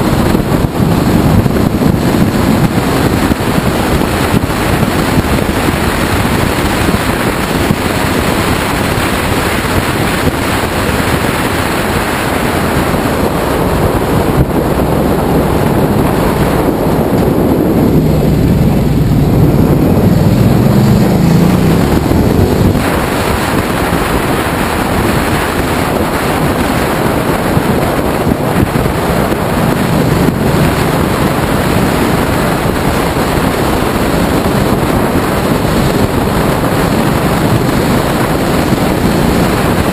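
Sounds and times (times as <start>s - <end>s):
motorcycle engine: 0.0s - 39.9s
wind rush on microphone: 0.0s - 39.9s.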